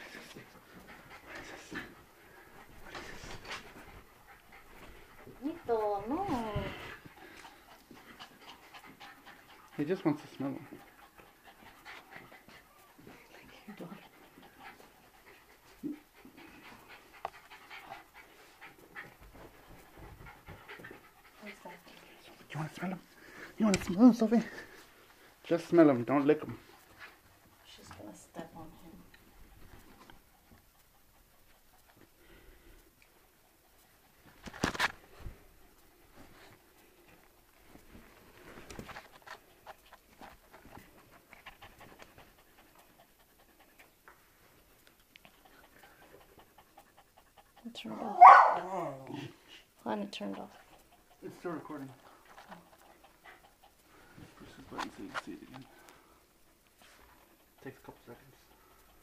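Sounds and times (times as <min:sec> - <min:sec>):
dog panting: 0:00.0 - 0:59.0.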